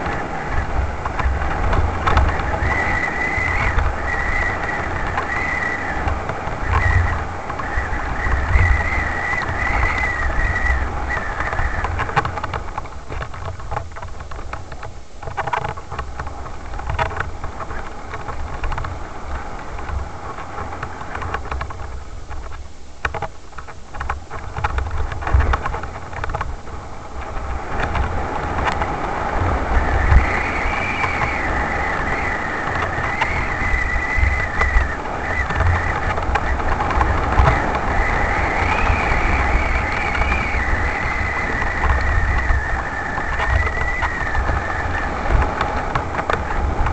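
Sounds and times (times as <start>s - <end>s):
bike rattling over stones: 0.0s - 46.9s
wavering high whine: 0.0s - 46.9s
wind rumble on microphone: 0.0s - 46.9s.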